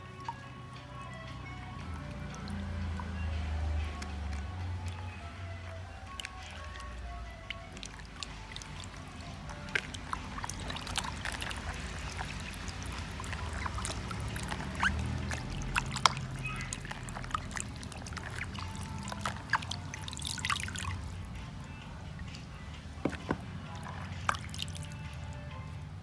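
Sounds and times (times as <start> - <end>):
water dripping: 0.0 - 26.0
water splashing in plastic basin: 1.9 - 5.4, 6.0 - 21.5, 22.3 - 25.3.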